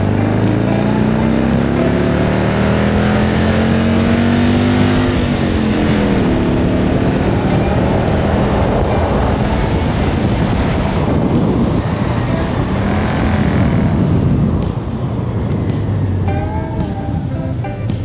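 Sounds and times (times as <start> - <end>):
flat-twin car engine running: 0.0 - 18.0.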